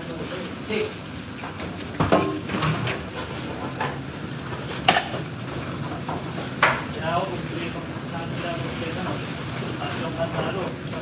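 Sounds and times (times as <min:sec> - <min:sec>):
metal pans and utensils clanking: 0:00.7 - 0:07.0, 0:08.4 - 0:11.0.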